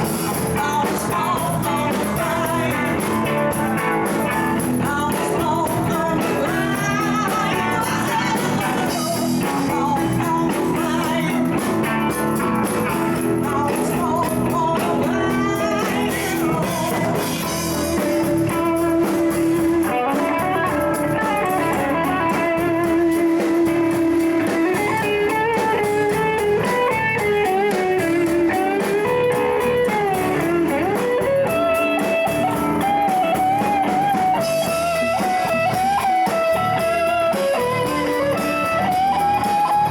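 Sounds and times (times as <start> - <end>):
bending guitar melody: 0.0 - 39.9
live blues band playing: 0.0 - 39.9.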